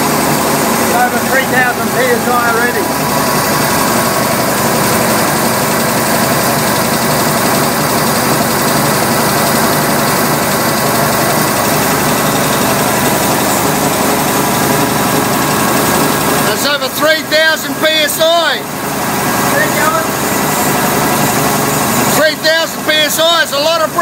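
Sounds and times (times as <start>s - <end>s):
air compressor pumping: 0.0s - 24.0s
engine running steadily: 0.0s - 24.0s.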